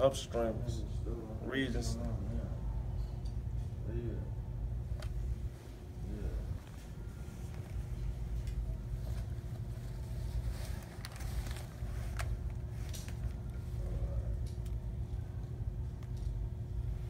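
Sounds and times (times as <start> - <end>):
faint steady hum: 0.0 - 17.0
low background rumble: 0.0 - 17.0.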